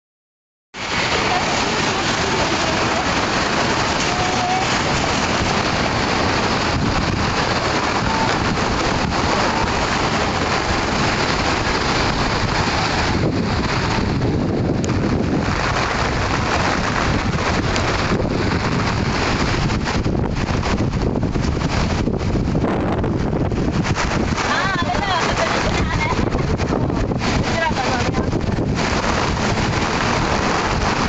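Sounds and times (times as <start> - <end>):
wind and heavy rain: 0.8 - 31.0
wind buffeting microphone: 0.8 - 31.0.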